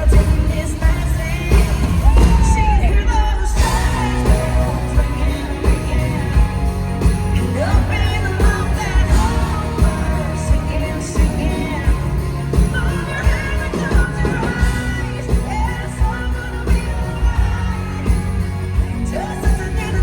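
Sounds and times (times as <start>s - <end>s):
bass: 0.0s - 20.0s
drums: 0.0s - 20.0s
woman singing: 0.0s - 20.0s.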